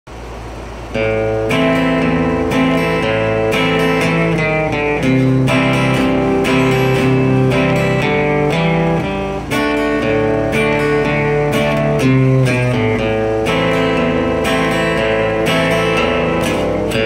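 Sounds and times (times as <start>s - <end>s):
acoustic guitar strumming: 0.2s - 17.0s.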